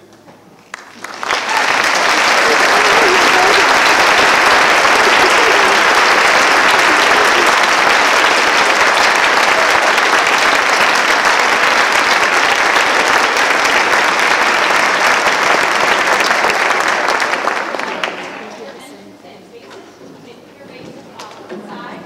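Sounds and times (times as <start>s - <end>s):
large audience applauding: 0.6s - 18.6s.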